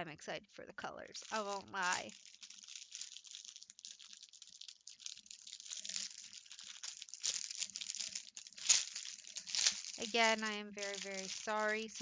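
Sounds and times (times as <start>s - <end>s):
plastic bag crinkling: 1.2s - 12.0s.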